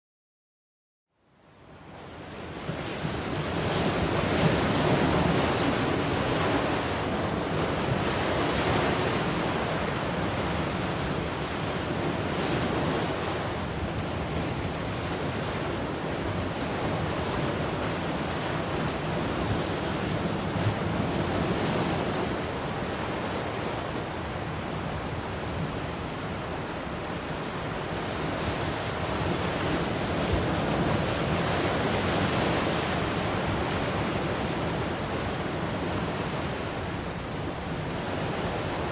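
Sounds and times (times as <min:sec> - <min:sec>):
ocean waves breaking on shore: 0:01.5 - 0:38.9.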